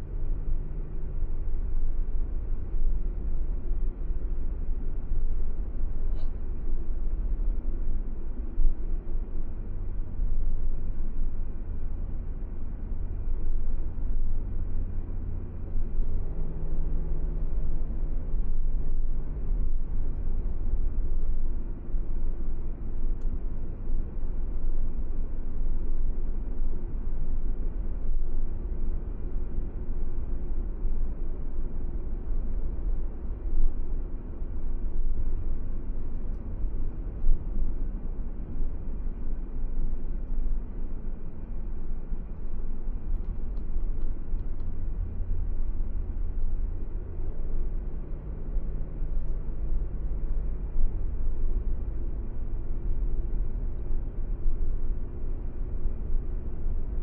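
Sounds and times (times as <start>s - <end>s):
car road and engine rumble: 0.0s - 57.0s
faint engine hum: 0.0s - 57.0s.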